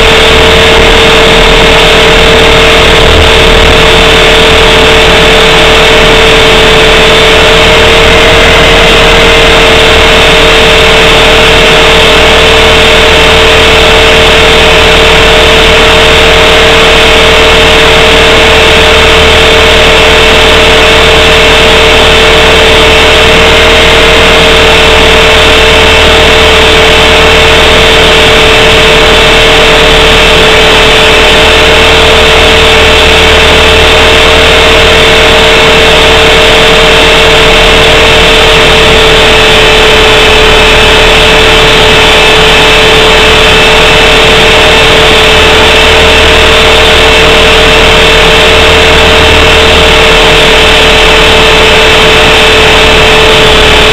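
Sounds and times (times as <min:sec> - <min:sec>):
rc helicopter motor and rotor whining: 0:00.0 - 0:53.9.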